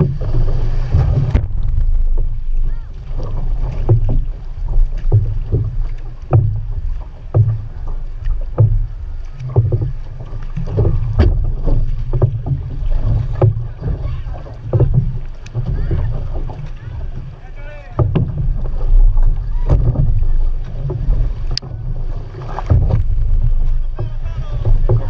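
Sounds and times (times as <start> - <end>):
paddle splashes: 0.0 - 25.0
water rushing against hull: 0.0 - 25.0
wind buffeting microphone: 0.0 - 25.0.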